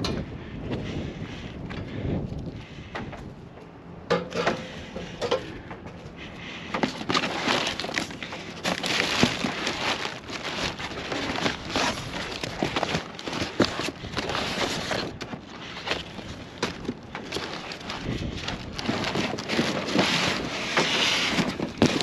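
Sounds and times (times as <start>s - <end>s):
rummaging through cardboard boxes: 4.2s - 22.0s.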